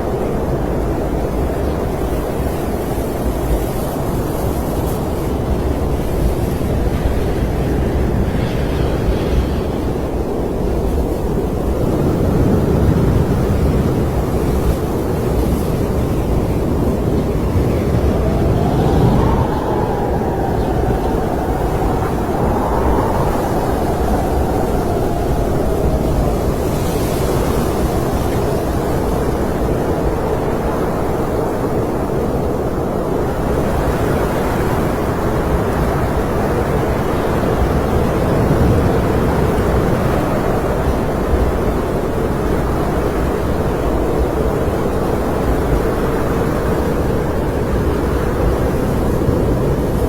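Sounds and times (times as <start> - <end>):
wind blowing: 0.0 - 50.0.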